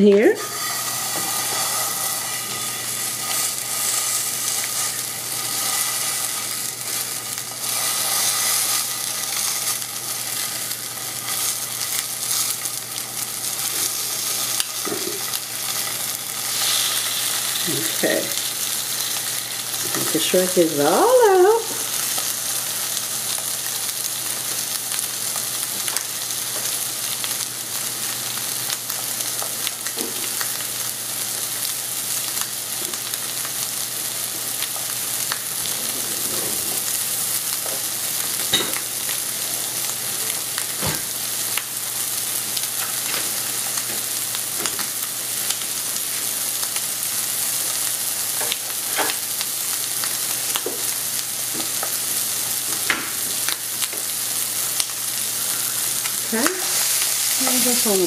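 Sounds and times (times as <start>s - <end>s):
sausage sizzling in a skillet: 0.0s - 58.0s.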